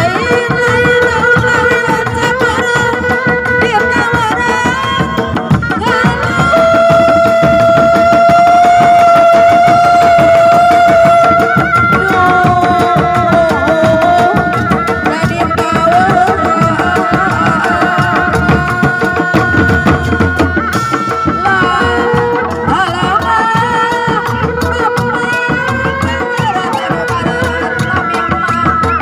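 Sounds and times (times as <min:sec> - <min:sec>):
hand drums beaten fast: 0:00.0 - 0:29.0
loud melody line: 0:00.0 - 0:29.0.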